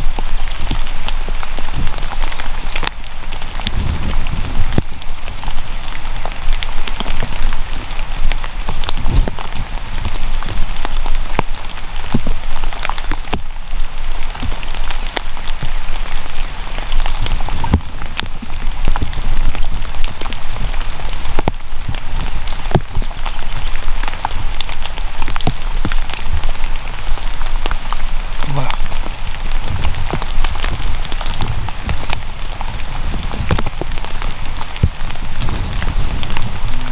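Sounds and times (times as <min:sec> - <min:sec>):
raindrops tapping near microphone: 0:00.0 - 0:36.9
steady rain: 0:00.0 - 0:36.9.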